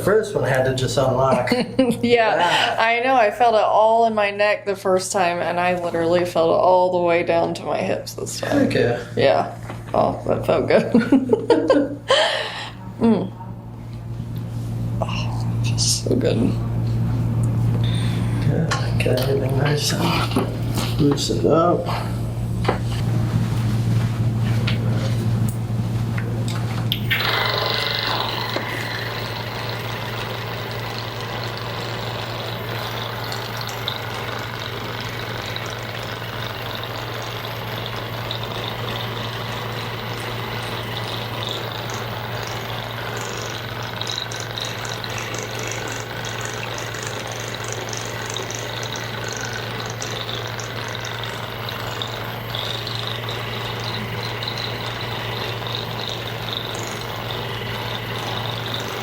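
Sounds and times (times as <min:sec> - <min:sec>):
electric massager motor hum: 0:00.0 - 0:59.0.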